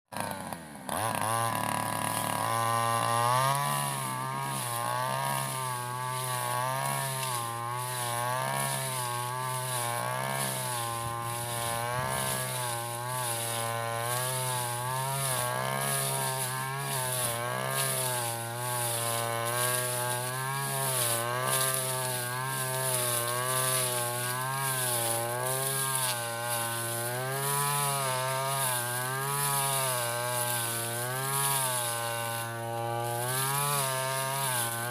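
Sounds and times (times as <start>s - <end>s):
brush cutter engine running hard: 0.1s - 34.9s.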